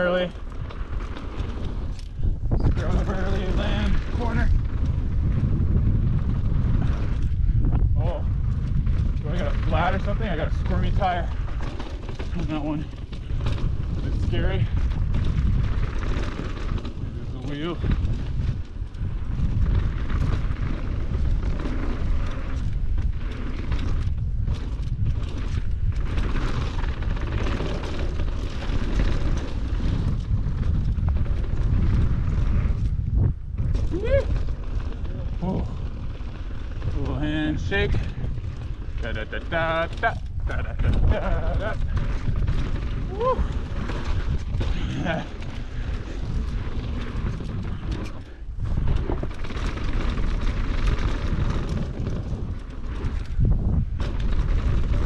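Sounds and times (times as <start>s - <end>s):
bike clicks and rattles: 0.0s - 55.0s
tyres rolling on dirt: 0.0s - 55.0s
wind buffeting microphone: 0.0s - 55.0s.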